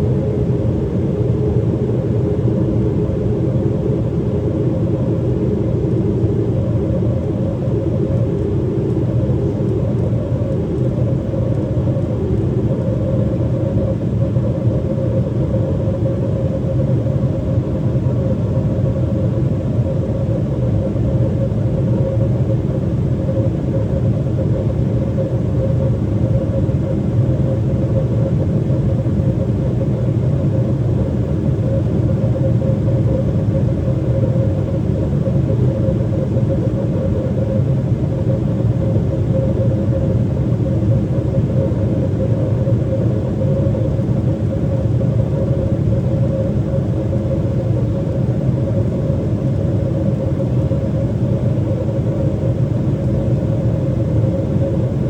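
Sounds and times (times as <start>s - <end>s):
mid-pitched hum: 0.0s - 55.0s.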